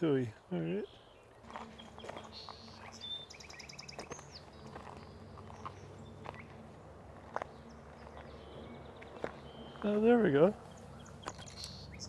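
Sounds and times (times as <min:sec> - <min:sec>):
songbird trilling: 0:00.6 - 0:06.6, 0:07.3 - 0:12.0.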